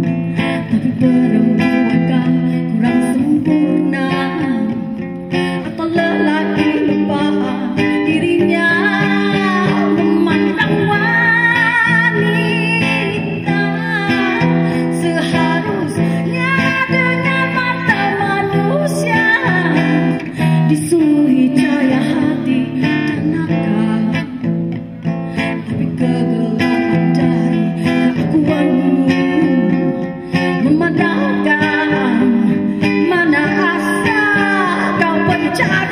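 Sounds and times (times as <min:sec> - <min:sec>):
strummed guitar: 0:00.0 - 0:35.9
woman singing with vibrato: 0:00.0 - 0:35.9.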